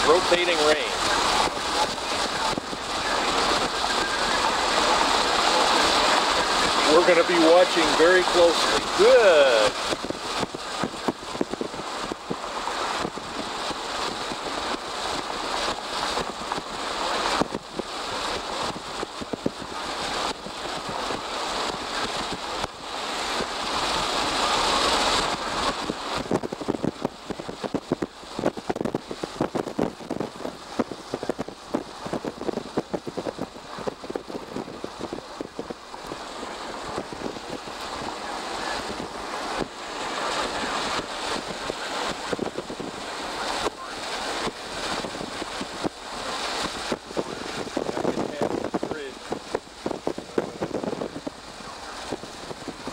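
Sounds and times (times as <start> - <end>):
road noise of moving vehicle: 0.0 - 52.9
wind buffeting microphone: 0.0 - 52.9.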